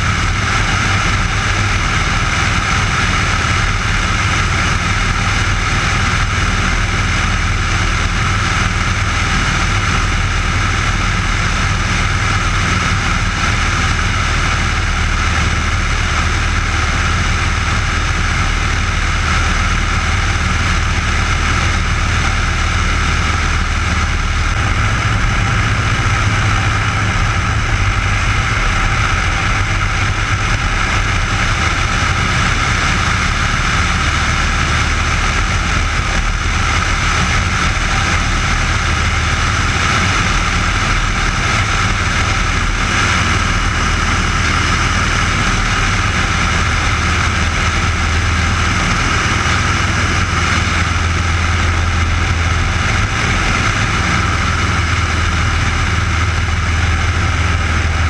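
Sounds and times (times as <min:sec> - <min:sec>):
airflow noise: 0:00.0 - 0:58.0
light aircraft engine droning: 0:00.0 - 0:58.0.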